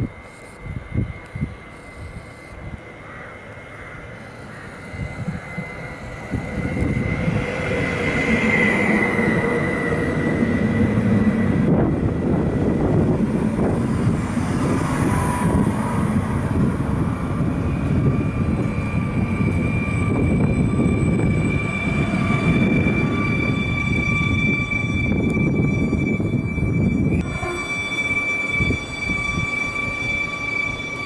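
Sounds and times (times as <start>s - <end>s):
thin whine from train: 0.0s - 31.0s
train wheels rumbling on rails: 0.0s - 31.0s.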